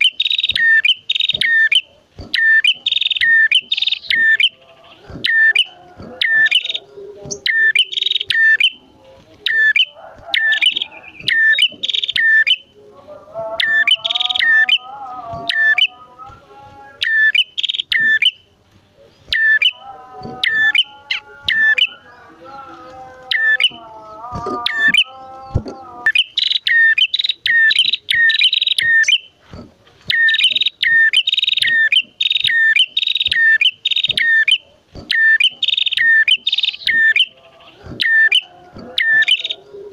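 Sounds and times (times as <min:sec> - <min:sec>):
lower wavering bird call: 0:00.0 - 0:08.8, 0:09.4 - 0:12.8, 0:13.6 - 0:16.0, 0:16.9 - 0:18.5, 0:19.3 - 0:22.2, 0:22.8 - 0:25.4, 0:26.0 - 0:29.3, 0:30.1 - 0:39.9
birds calling sharp high notes: 0:00.0 - 0:12.8, 0:13.6 - 0:39.9.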